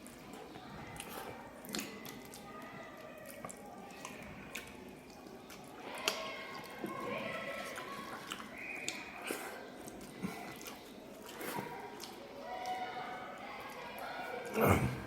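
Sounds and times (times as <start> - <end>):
chewing and lip smacking: 0.0 - 12.9.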